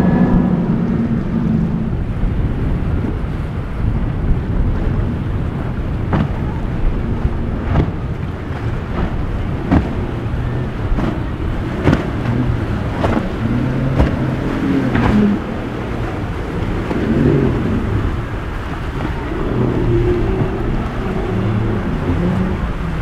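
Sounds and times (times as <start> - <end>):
outboard boat engines droning: 0.0 - 23.0
wind buffeting microphone: 0.0 - 23.0.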